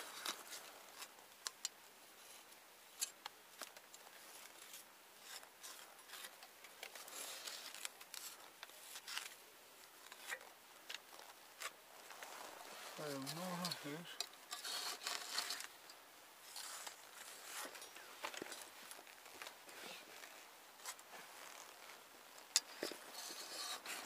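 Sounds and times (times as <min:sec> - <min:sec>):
jacket fabric rustling: 0:03.6 - 0:15.8, 0:16.4 - 0:24.0.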